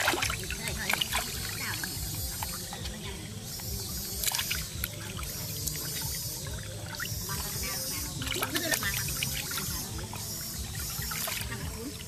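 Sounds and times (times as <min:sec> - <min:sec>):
water splashing in a basin: 0:00.0 - 0:12.0.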